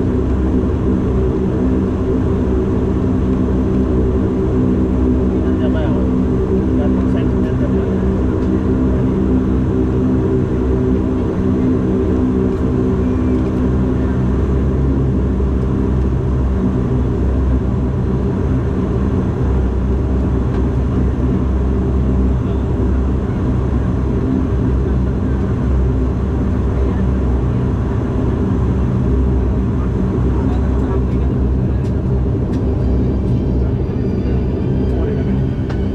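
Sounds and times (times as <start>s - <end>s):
aircraft cabin rumble: 0.0s - 35.9s
propeller drone: 0.0s - 35.9s.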